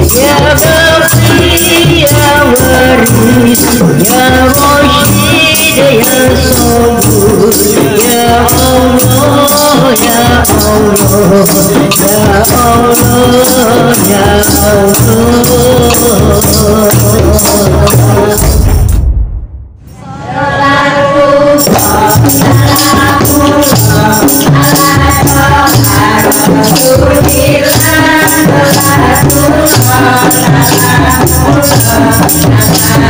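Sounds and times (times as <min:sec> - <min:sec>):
women singing a devotional song: 0:00.0 - 0:18.6, 0:19.9 - 0:33.0
singer on a microphone: 0:00.0 - 0:18.8, 0:19.9 - 0:33.0
jingling tambourines: 0:00.0 - 0:19.1, 0:21.6 - 0:33.0
frame drums: 0:00.0 - 0:20.0, 0:21.6 - 0:33.0.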